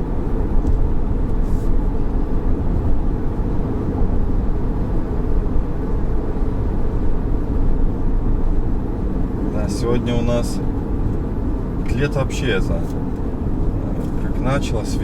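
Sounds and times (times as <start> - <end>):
road and tyre noise in car: 0.0 - 15.0.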